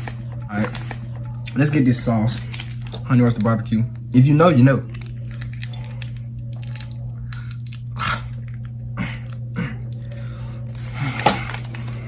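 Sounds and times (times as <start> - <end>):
plastic packet crinkling and tearing: 0.0 - 12.0
steady low hum: 0.0 - 12.0.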